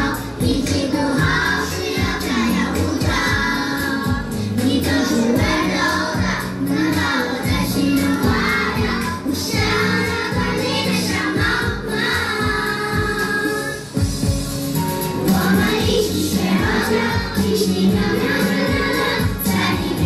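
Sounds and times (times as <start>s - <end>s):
children's choir singing: 0.0s - 14.0s, 15.2s - 20.0s
pop accompaniment with steady beat: 0.0s - 20.0s.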